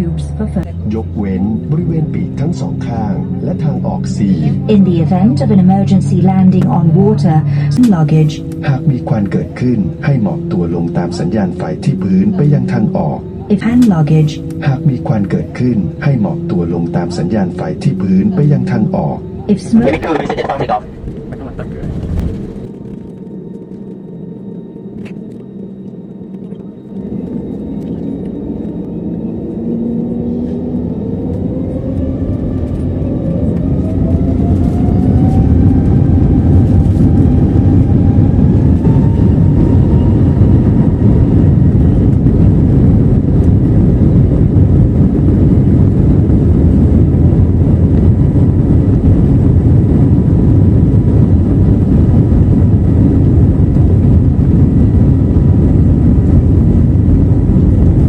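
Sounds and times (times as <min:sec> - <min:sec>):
jet engine roar: 0:00.0 - 0:58.0
jet engine whine rising: 0:00.0 - 0:58.0.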